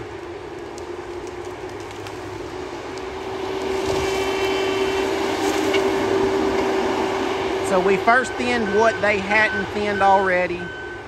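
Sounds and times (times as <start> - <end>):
heavy machine engine and hydraulics: 0.0 - 11.0.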